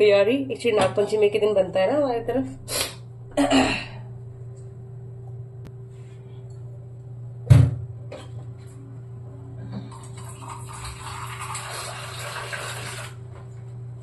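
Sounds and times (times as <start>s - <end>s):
steady low hum: 0.0s - 12.2s, 13.0s - 14.0s.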